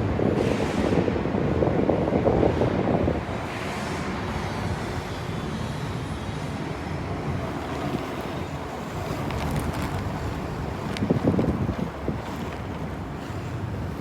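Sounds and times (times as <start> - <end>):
wind buffeting microphone: 0.0 - 5.2, 6.4 - 14.0.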